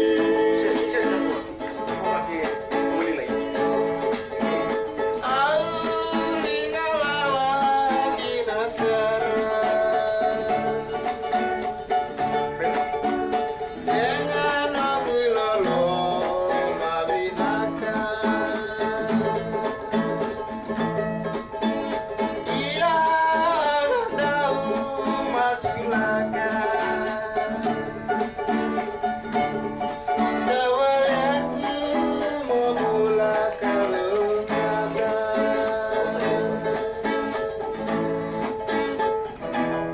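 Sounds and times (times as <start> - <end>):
acoustic guitars strumming: 0.0 - 39.9
voices singing together: 0.0 - 39.9.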